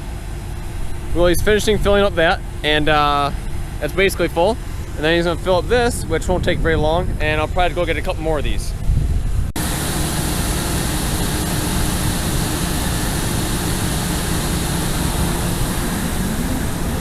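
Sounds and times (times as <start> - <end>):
diesel farm machinery drone: 0.0 - 17.0.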